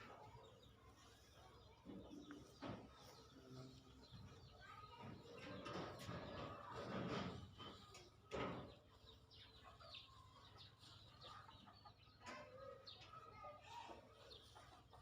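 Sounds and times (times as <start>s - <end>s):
faint clucking bird calls: 0.0s - 15.0s.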